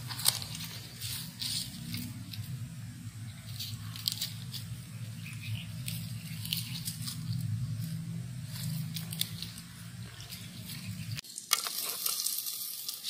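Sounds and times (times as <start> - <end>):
cat crunching dry grass: 0.0 - 2.7, 3.4 - 13.0
steady low hum: 0.0 - 11.2.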